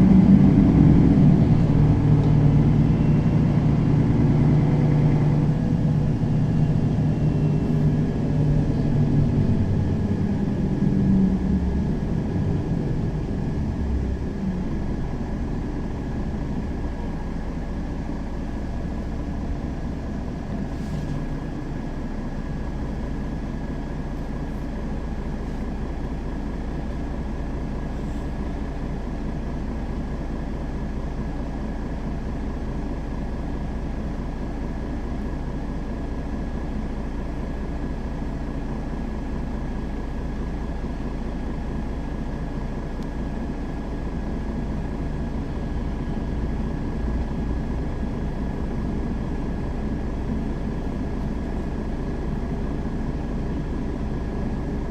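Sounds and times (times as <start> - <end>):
bus diesel engine: 0.0 - 54.9.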